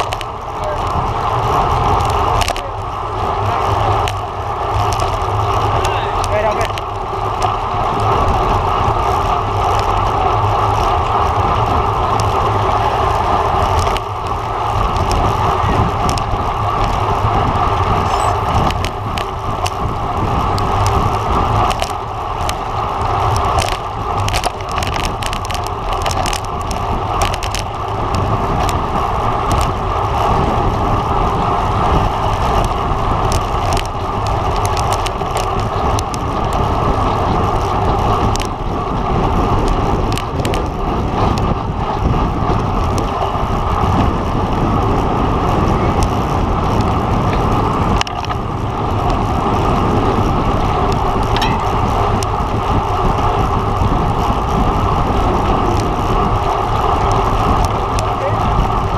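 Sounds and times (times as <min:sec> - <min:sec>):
bicycle tyre noise: 0:00.0 - 0:58.9
low road rumble: 0:00.0 - 0:58.9
wind rushing: 0:11.4 - 0:58.9.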